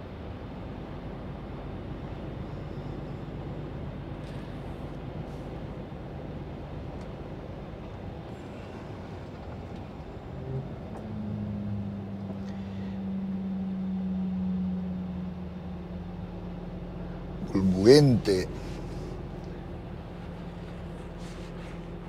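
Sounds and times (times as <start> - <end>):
heavy truck engine rumble: 0.0 - 22.0
steady engine hum: 0.0 - 22.0.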